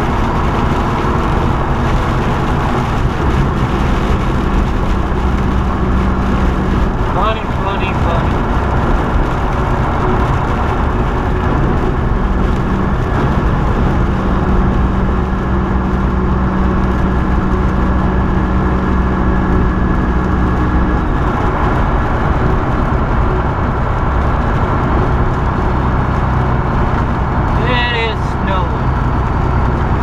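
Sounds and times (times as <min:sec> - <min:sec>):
diesel truck engine droning: 0:00.0 - 0:30.0
road and wind noise: 0:00.0 - 0:30.0.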